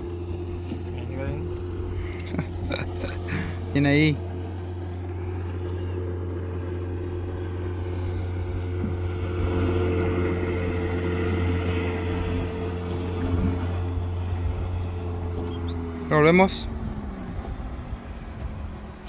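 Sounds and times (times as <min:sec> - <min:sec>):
outboard boat motor running: 0:00.0 - 0:19.0.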